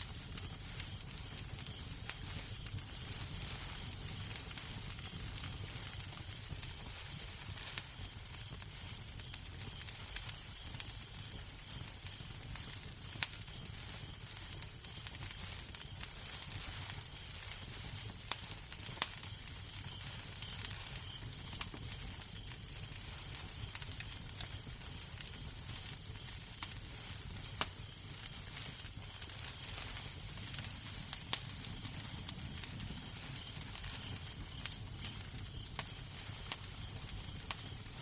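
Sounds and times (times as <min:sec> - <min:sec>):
fire pops: 0:00.0 - 0:38.0
wood fire crackling: 0:00.0 - 0:38.0.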